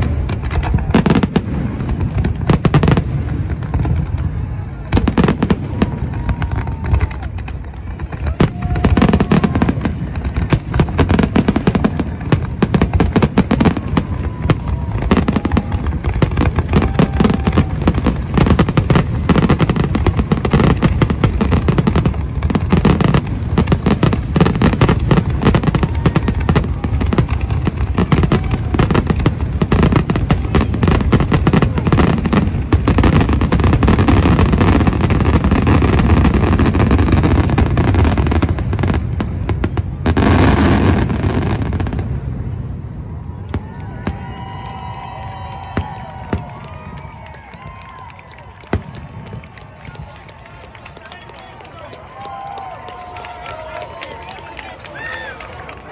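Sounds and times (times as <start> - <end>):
fireworks booming and crackling: 0.0 - 55.9.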